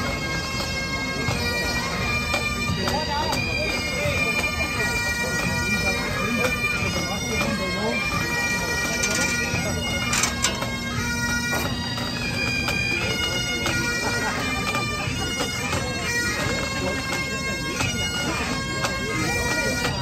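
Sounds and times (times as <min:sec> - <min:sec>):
bagpipes playing a tune: 0:00.0 - 0:20.0.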